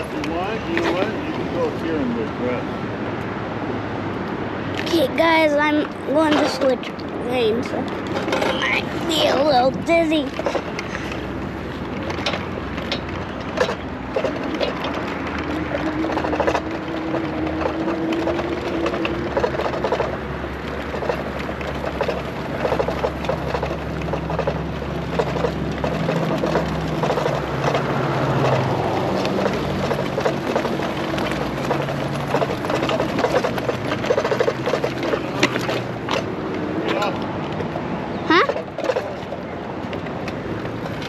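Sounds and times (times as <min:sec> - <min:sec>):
bike road rumble: 0:00.0 - 0:41.0
wind: 0:00.0 - 0:41.0
small clicks and rattles: 0:05.8 - 0:41.0.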